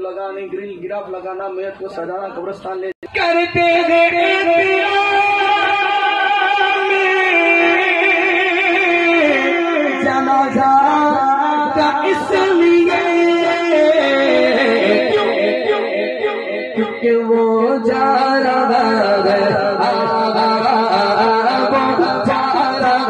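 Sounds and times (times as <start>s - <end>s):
man singing devotional song: 2.5s - 23.0s.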